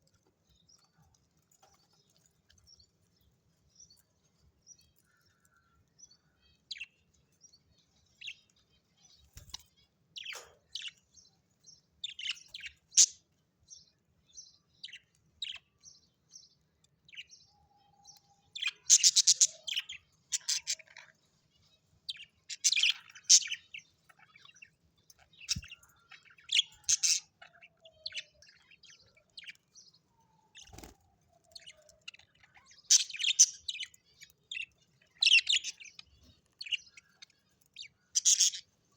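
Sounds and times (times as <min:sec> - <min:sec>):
birds chattering rapidly: 0:00.0 - 0:38.9
birds chirping: 0:00.0 - 0:38.9.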